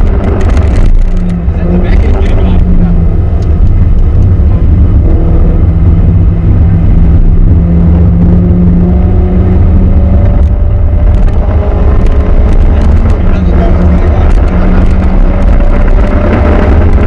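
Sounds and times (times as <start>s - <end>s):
car engine at high revs: 0.0s - 17.0s
tyre and road noise: 0.0s - 17.0s.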